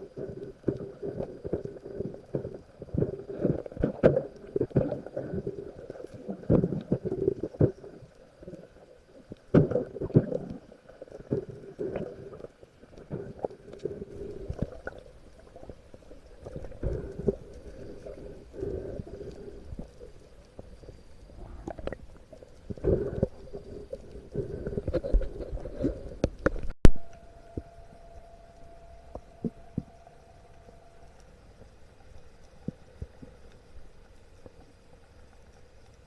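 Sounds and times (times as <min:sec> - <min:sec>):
underwater gurgling: 0:00.0 - 0:36.0.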